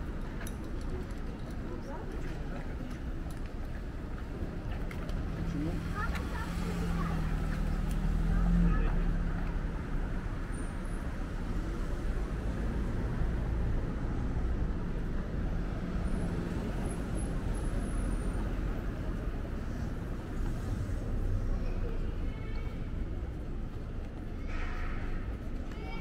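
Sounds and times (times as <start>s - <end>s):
traffic driving past: 3.9s - 26.0s.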